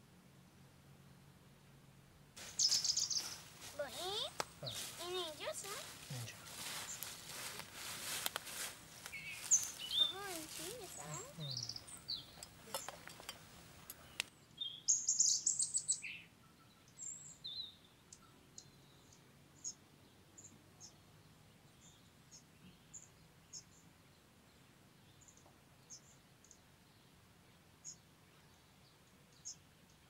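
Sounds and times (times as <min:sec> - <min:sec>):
songbirds chirping: 0:02.4 - 0:30.0.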